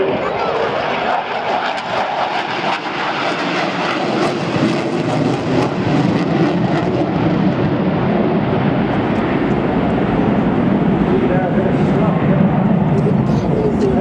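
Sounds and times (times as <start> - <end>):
aircraft engine: 0.0 - 14.0.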